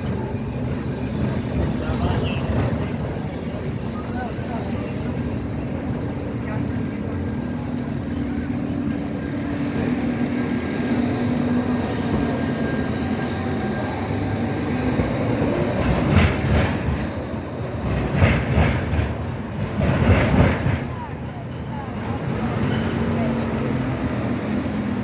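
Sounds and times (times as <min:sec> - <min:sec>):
tram running on rails: 0:00.0 - 0:25.0
tram wheels clacking over rail joints: 0:00.0 - 0:25.0.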